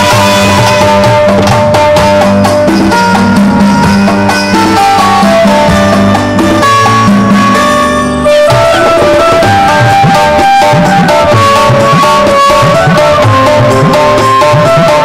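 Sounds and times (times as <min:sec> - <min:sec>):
keyboard and guitar accompaniment: 0:00.0 - 0:15.0
nadaswaram melody: 0:00.0 - 0:15.0
thavil and tabla rhythm: 0:00.0 - 0:15.0.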